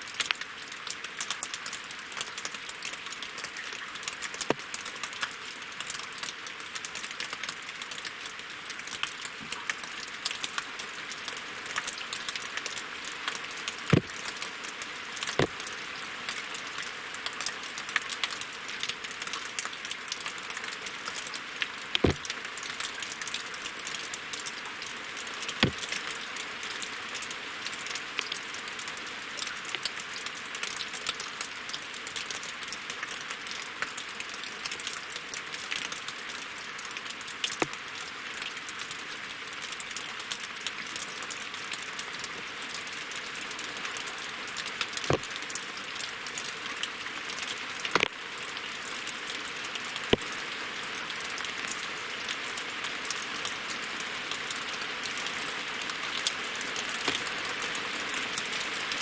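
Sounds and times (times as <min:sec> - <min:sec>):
rain hissing on a lake: 0:00.0 - 0:59.0.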